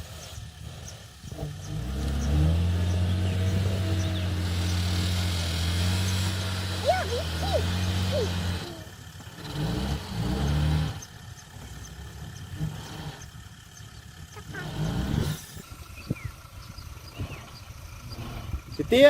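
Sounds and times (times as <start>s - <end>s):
diesel engine revving: 0.0s - 19.0s.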